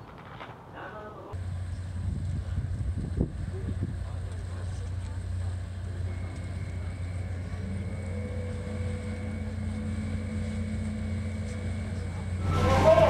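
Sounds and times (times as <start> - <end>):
ferry engines droning: 1.1 - 13.0
steady hum: 1.3 - 13.0.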